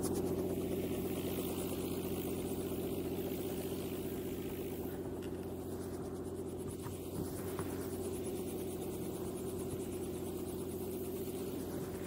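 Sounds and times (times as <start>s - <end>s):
helicopter engine pulsing: 0.0s - 12.0s.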